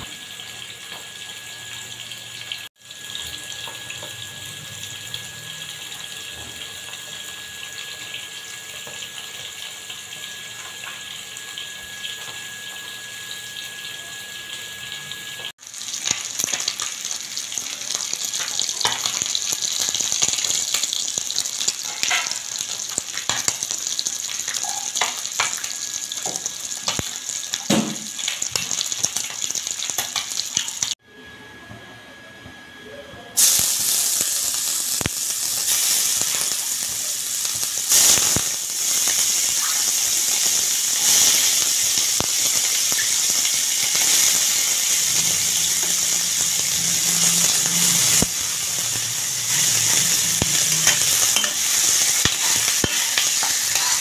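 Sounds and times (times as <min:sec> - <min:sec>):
fish frying in oil: 0:00.0 - 0:31.0, 0:33.4 - 0:54.0.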